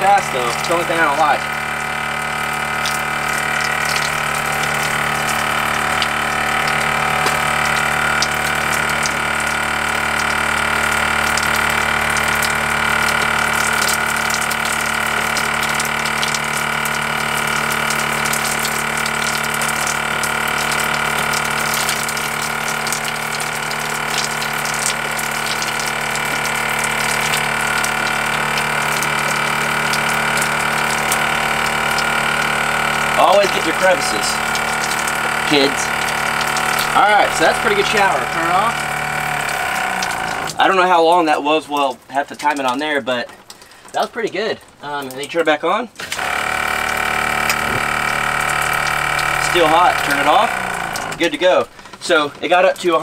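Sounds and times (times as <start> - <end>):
electric water pump humming: 0.0 - 53.0
shower water splashing: 0.0 - 53.0.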